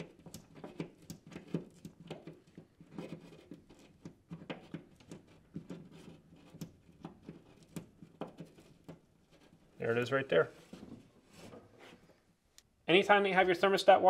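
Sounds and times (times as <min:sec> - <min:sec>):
wire scraping against drywall: 0:00.0 - 0:12.2.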